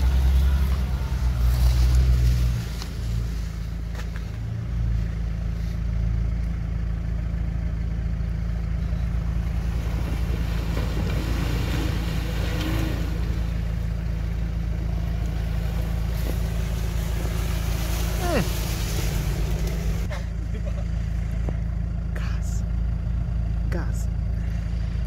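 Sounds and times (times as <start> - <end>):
vehicle engine low rumble: 0.0 - 25.0.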